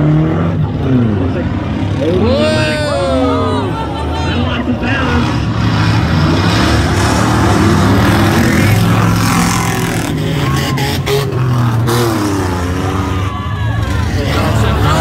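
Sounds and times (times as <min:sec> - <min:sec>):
pickup truck engines racing: 0:00.0 - 0:15.0.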